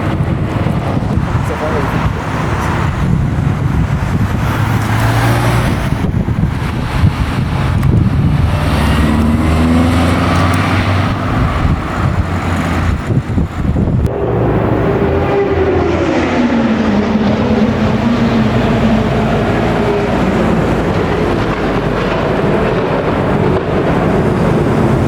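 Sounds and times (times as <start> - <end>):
car engines running: 0.0 - 25.0.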